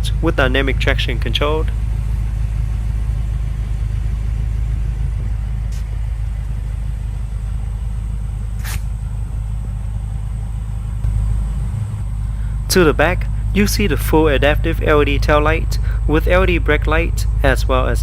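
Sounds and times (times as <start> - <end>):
low motor rumble: 0.0 - 18.0.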